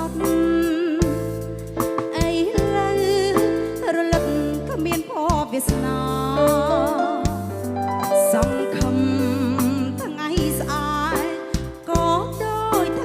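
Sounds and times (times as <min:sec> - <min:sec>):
pop song played by live band: 0:00.0 - 0:13.0.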